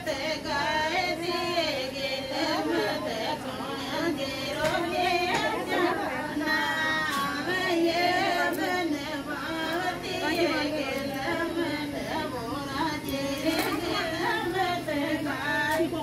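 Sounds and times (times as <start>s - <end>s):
women singing folk song: 0.0s - 16.0s.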